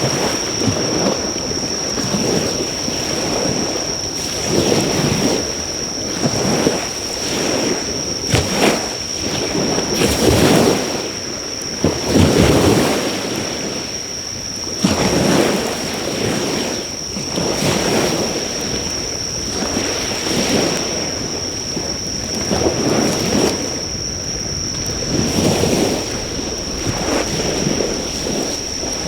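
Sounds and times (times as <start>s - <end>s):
high-pitched insect trill: 0.0s - 29.0s
waves breaking on shore: 0.0s - 29.0s.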